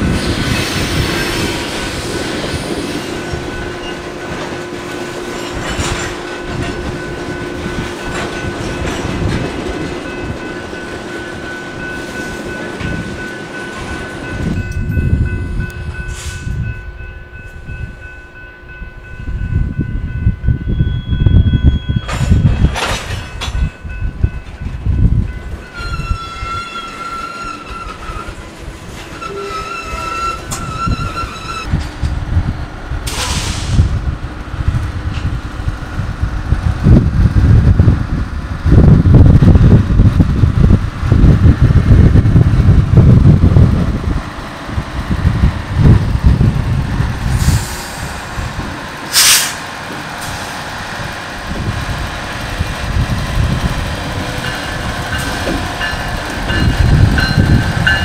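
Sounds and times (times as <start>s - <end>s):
locomotive rolling past: 0.0s - 58.0s
railcar wheels rumbling on rail: 0.0s - 58.0s.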